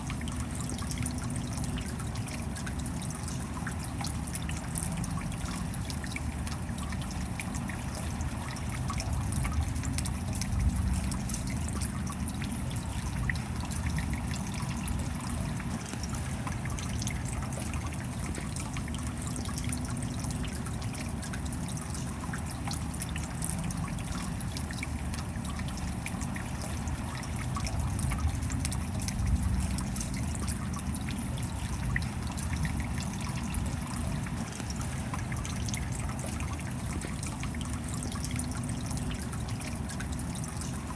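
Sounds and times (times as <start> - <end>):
steady rain: 0.0 - 40.9
water trickling and dripping: 0.0 - 40.9.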